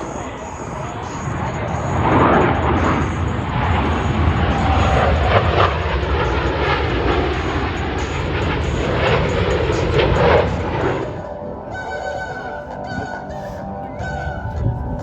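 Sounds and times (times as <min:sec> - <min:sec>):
jet engine flying over: 0:00.0 - 0:15.0.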